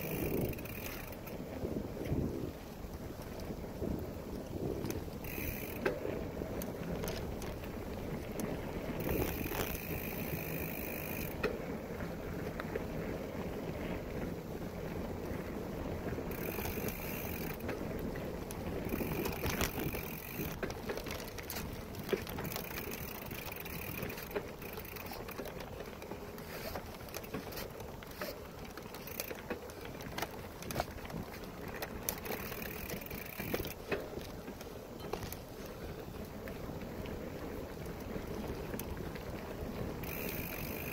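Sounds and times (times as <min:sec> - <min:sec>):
bike clicks and rattles: 0:00.0 - 0:40.9
tyres rolling over dirt: 0:00.0 - 0:40.9.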